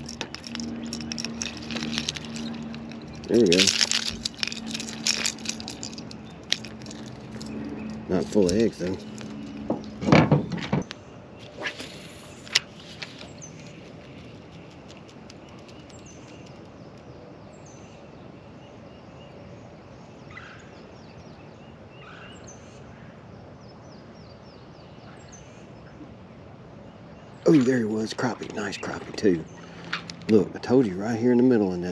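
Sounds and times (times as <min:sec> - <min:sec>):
birds chirping: 0:00.0 - 0:22.9, 0:23.5 - 0:31.9
steady outdoor hiss: 0:00.0 - 0:31.9.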